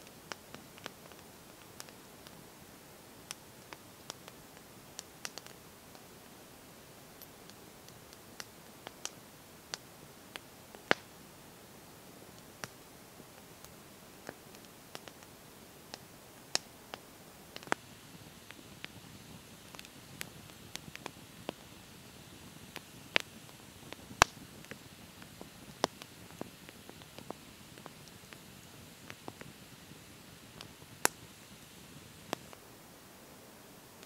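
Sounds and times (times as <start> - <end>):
campfire crackling and popping: 0.0 - 32.7
faint steady hiss: 0.0 - 34.0.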